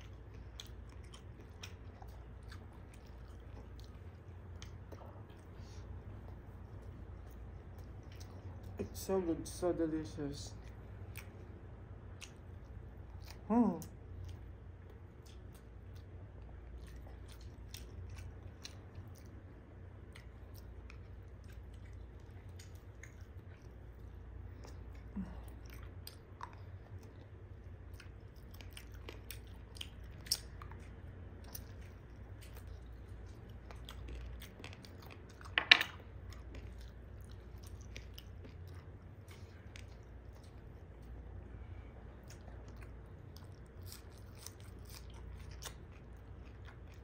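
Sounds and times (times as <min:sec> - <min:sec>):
person chewing: 0:00.0 - 0:08.8, 0:10.6 - 0:47.0.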